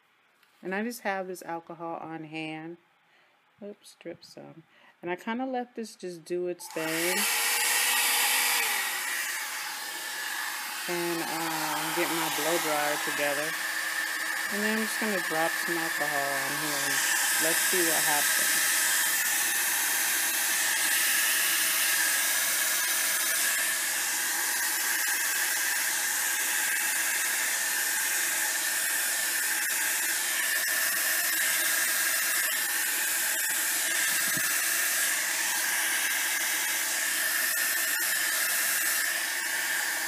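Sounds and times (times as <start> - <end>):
blow dryer running: 6.7 - 40.0.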